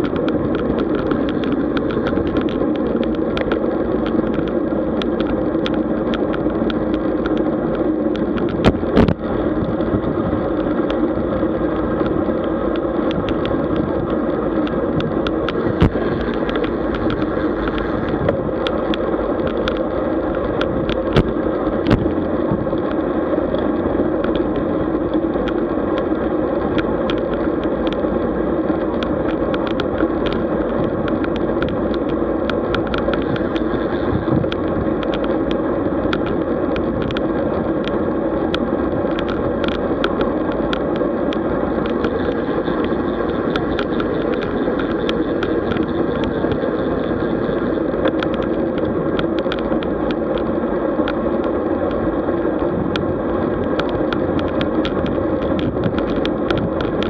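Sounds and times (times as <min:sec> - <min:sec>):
bicycle wind and road noise: 0:00.0 - 0:57.0
small clicks and rattles: 0:00.0 - 0:57.0.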